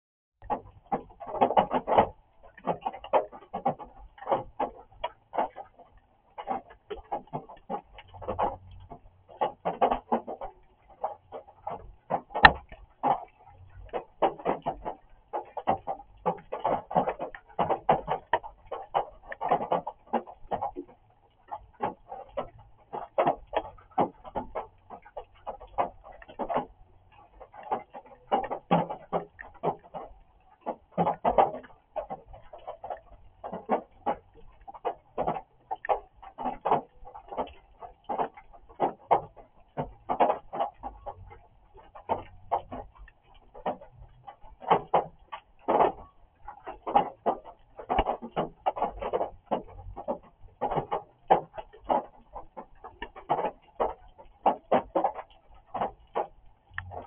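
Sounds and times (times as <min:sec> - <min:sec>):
rain drops tapping hard surface: 0:00.4 - 0:57.0.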